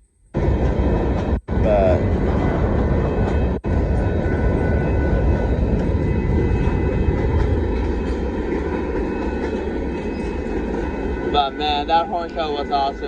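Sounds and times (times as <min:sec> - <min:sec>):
freight train wheels rumbling: 0:00.1 - 0:13.0.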